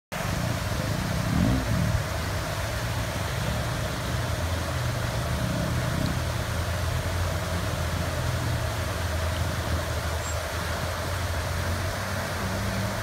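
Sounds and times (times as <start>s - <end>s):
car engine running at low revs: 0.1s - 13.0s
flowing water: 0.1s - 13.0s.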